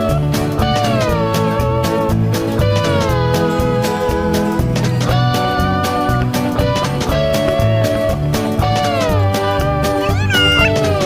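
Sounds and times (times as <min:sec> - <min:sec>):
song with guitar and beat: 0:00.0 - 0:11.0.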